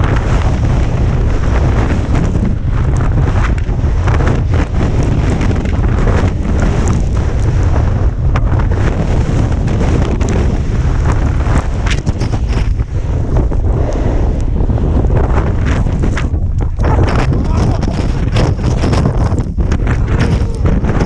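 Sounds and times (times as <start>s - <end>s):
wind blasting microphone: 0.0s - 21.0s.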